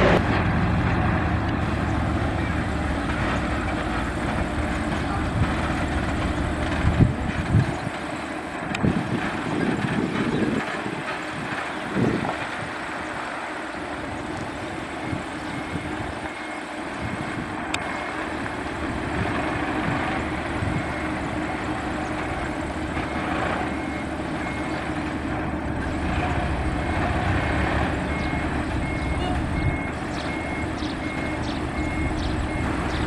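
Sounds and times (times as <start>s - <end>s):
diesel truck engine at low speed: 0.0s - 33.0s.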